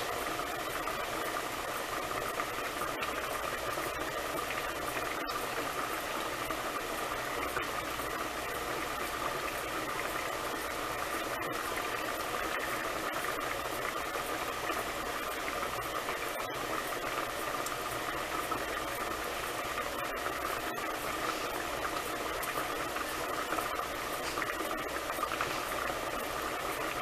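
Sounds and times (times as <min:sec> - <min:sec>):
pot boiling and bubbling: 0:00.0 - 0:27.0.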